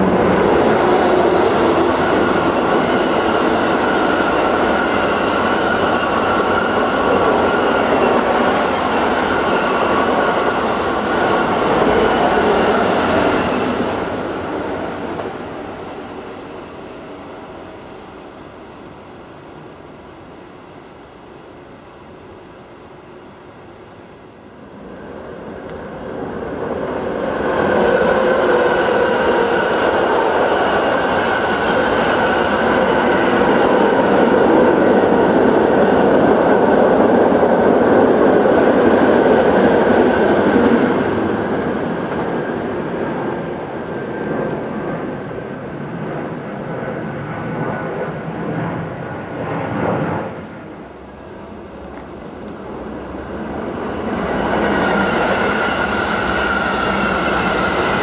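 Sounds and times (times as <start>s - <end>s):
train passing close by: 0.0s - 58.0s.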